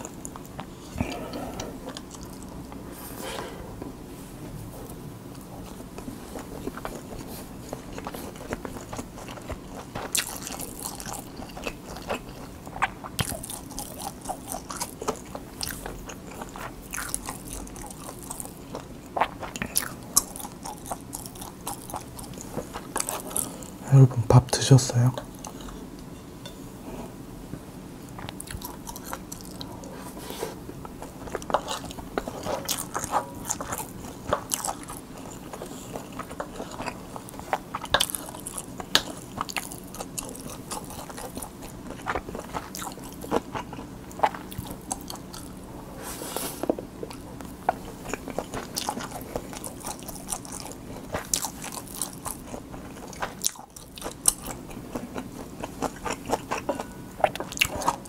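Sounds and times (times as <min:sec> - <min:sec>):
person chewing food: 0:00.0 - 0:04.0, 0:04.8 - 0:23.8, 0:25.3 - 0:27.2, 0:28.0 - 0:58.0.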